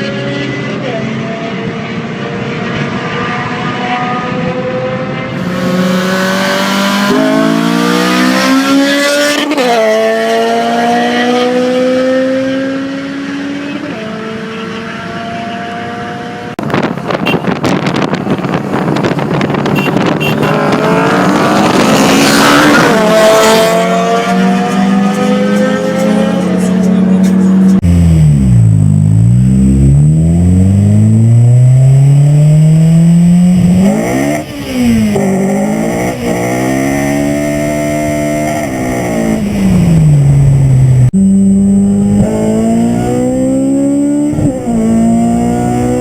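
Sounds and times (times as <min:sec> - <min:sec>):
car engine revving hard: 0:02.6 - 0:46.0.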